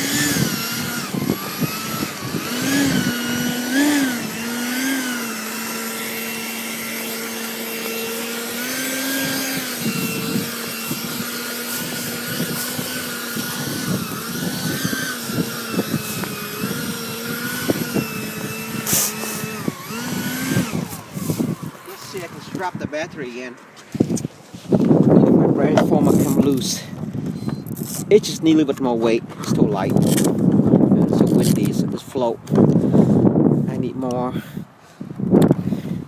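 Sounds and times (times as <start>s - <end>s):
electric model jet fan whining: 0.0s - 29.0s.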